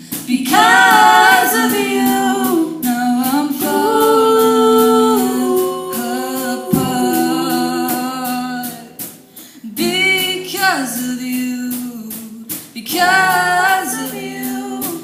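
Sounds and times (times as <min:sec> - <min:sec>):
girls singing in harmony: 0:00.2 - 0:11.2, 0:12.9 - 0:15.0.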